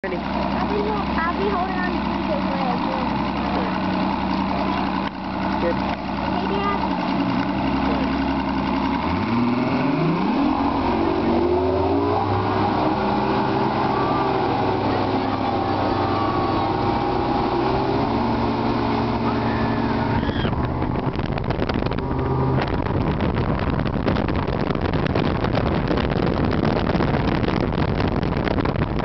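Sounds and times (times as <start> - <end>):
outboard engine running: 0.0 - 29.0
rush of wind and water: 0.0 - 29.0.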